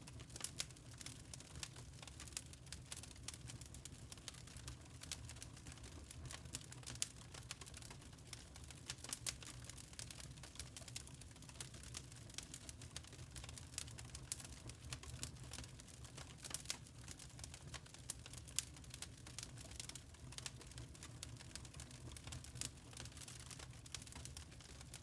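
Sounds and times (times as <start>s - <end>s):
burning charcoal crackling: 0.0s - 25.0s.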